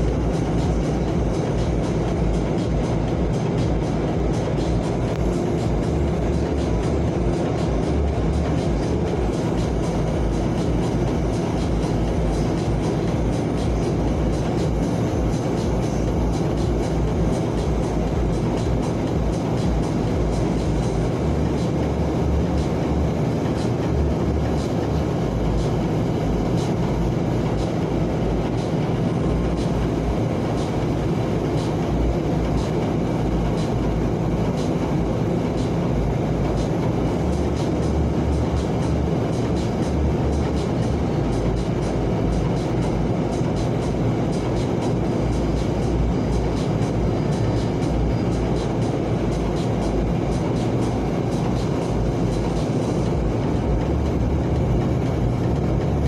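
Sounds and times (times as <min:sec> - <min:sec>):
vehicle road and engine noise: 0:00.0 - 0:56.0.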